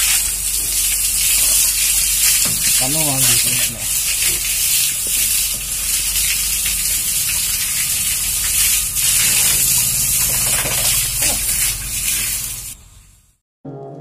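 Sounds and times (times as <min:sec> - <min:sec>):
hose water spraying: 0:00.0 - 0:12.8.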